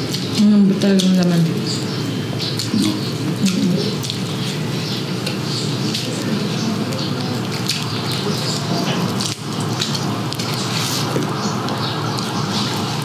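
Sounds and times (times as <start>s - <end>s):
crispy skin crackling and crunching: 0.0s - 13.0s
steady background noise: 0.0s - 13.0s.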